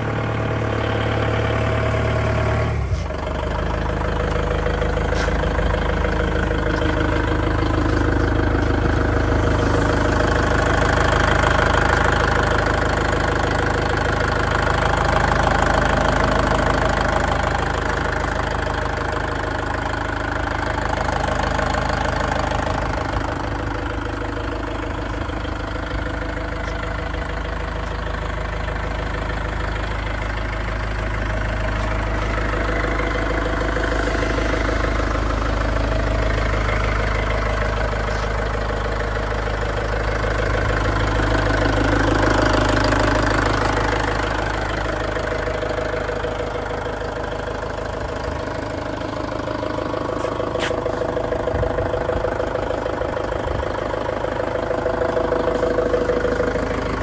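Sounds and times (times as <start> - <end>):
forklift diesel engine idling: 0.0 - 57.0.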